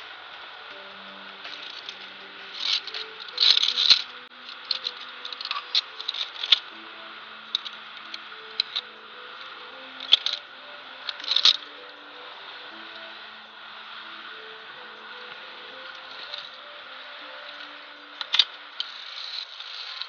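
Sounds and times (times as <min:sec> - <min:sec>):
quiet background music: 0:00.0 - 0:20.0
carabiners clicking on steel cable: 0:01.4 - 0:06.8, 0:07.5 - 0:14.4, 0:15.7 - 0:20.0.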